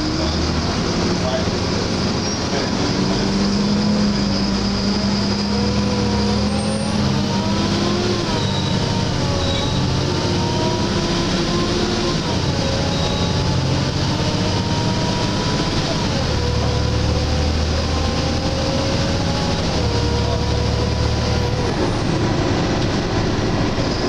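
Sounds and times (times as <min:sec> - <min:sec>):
bus diesel engine: 0:00.0 - 0:24.0.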